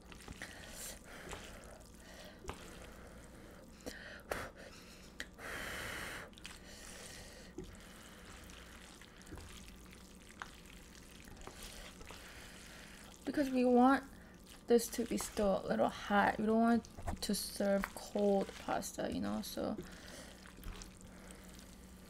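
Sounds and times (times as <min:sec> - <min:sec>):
wet noodles being tossed: 0:00.0 - 0:03.6, 0:06.3 - 0:22.0.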